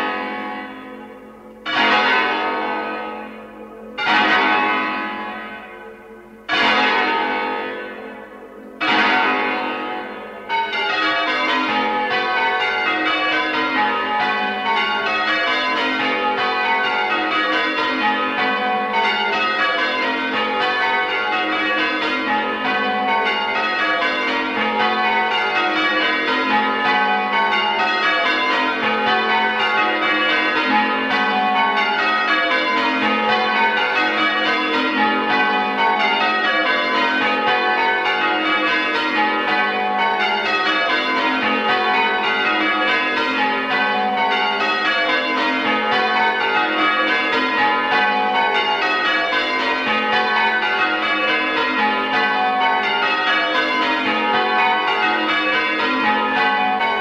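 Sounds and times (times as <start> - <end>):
church bells ringing in rounds: 0.0 - 57.0.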